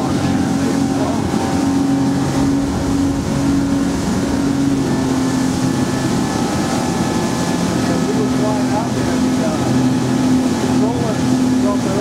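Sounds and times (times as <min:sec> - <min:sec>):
outboard motors droning: 0:00.0 - 0:12.0
rush of wind and water: 0:00.0 - 0:12.0.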